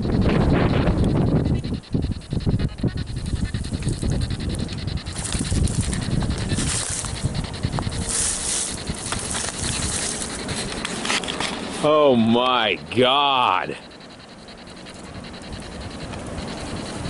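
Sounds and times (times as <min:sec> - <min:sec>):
wind buffeting a microphone: 0:00.0 - 0:11.8, 0:13.8 - 0:17.0.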